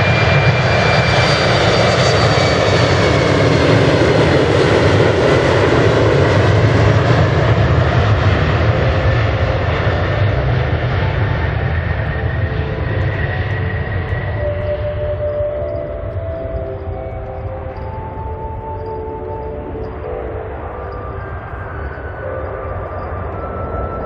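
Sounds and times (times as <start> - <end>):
high jet whine: 0.0 - 24.0
jet engine roar: 0.0 - 24.0.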